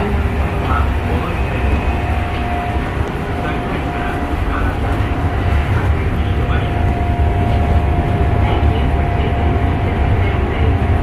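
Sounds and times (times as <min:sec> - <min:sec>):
train rumble with whine: 0:00.0 - 0:11.0.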